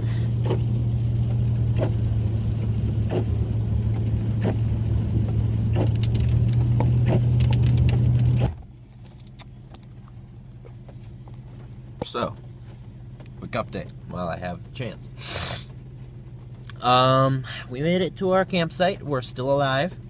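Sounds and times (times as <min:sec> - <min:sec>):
engine and road hum: 0:00.0 - 0:20.0.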